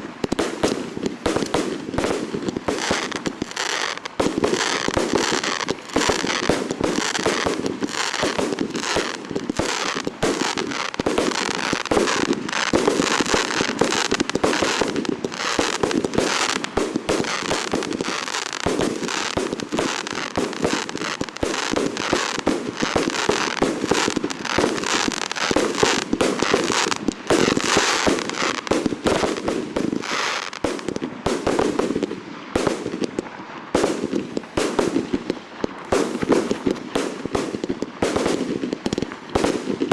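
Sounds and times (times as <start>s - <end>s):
firework bangs and crackling: 0.0s - 39.9s.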